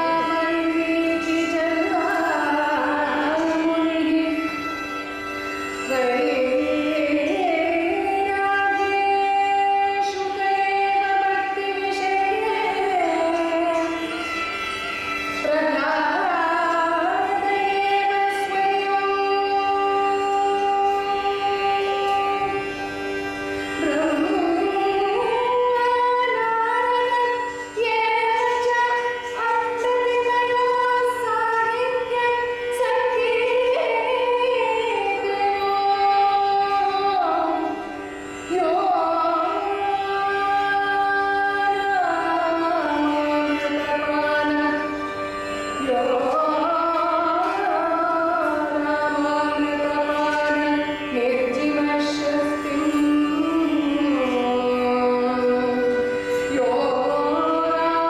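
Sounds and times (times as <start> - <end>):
woman singing: 0.0 - 58.0.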